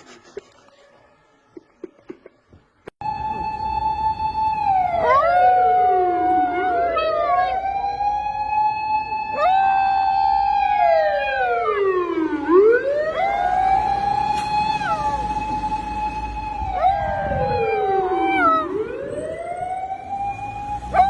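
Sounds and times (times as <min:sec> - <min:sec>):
siren wailing: 0:03.0 - 0:21.0.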